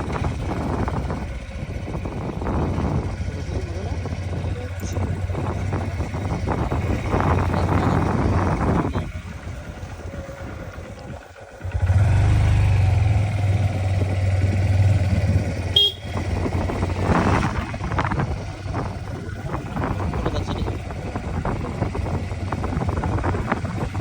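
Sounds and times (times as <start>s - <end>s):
road noise: 0.0s - 24.0s
vehicle engine humming: 0.0s - 24.0s.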